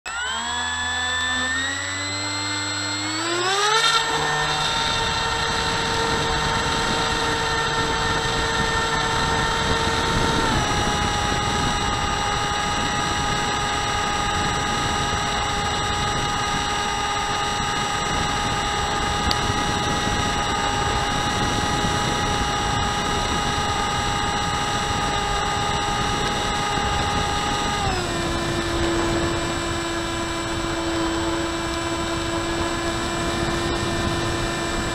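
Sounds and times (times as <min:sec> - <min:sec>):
electric motor and propeller whine: 0:00.0 - 0:34.9
wind rushing: 0:04.6 - 0:34.9.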